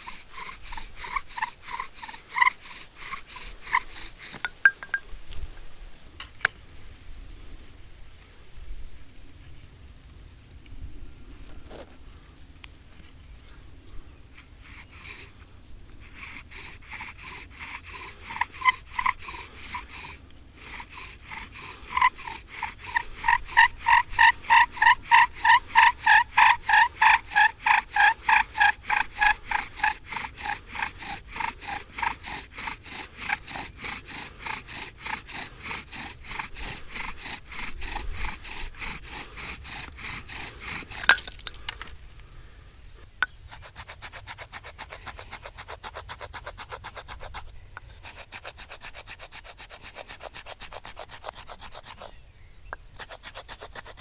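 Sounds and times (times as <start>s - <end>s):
bow drill squeaking and rasping: 0.0s - 5.1s, 14.4s - 42.0s, 43.0s - 54.0s.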